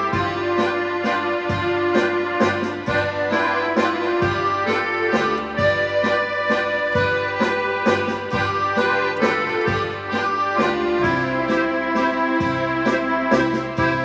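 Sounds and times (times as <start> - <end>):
accordion playing: 0.0 - 14.0
bass line: 0.0 - 14.0
steady percussion beat: 0.0 - 14.0.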